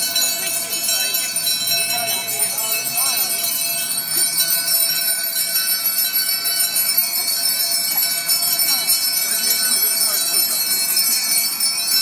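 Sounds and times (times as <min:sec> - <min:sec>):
many bells jangling: 0:00.0 - 0:12.0.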